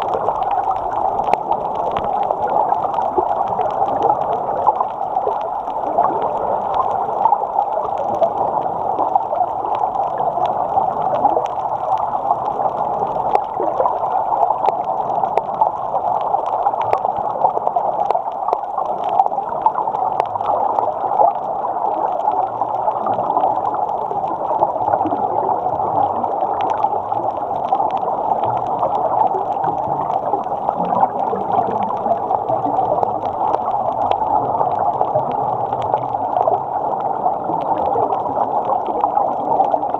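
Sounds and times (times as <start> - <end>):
faint clicks and crackles: 0.0 - 39.9
muffled underwater rushing: 0.0 - 39.9.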